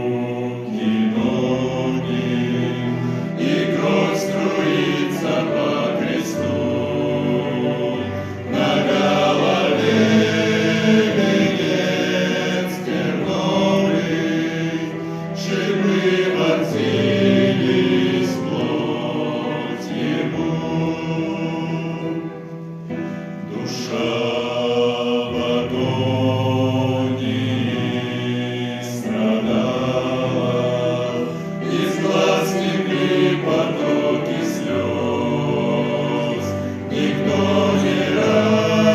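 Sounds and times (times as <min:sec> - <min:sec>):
male quartet singing a hymn: 0:00.0 - 0:38.9.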